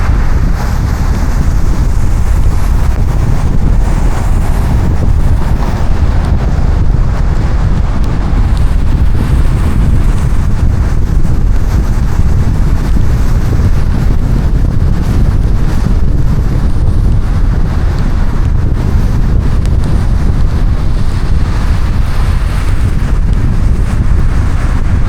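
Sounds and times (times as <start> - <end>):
road and rain noise: 0.0 - 25.0
wind buffeting microphone: 0.0 - 25.0.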